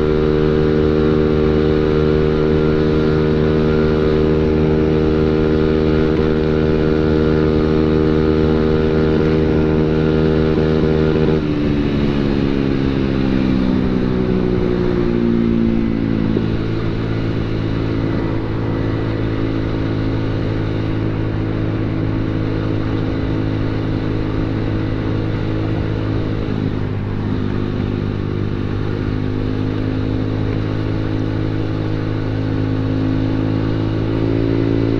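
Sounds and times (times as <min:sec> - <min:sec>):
scooter engine idling and revving: 0:00.0 - 0:34.9.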